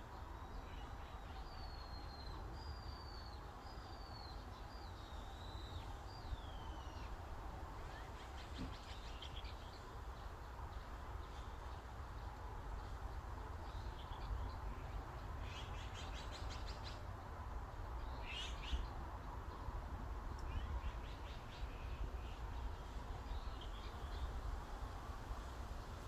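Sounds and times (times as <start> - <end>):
low breeze rumble: 4.5 - 26.0.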